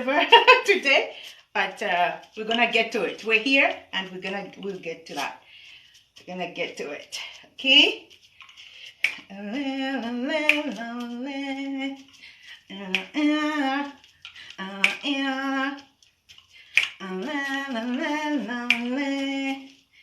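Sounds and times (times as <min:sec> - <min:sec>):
woman singing wordless melody: 0:00.0 - 0:05.4, 0:06.3 - 0:08.0, 0:09.0 - 0:16.0, 0:16.8 - 0:19.9.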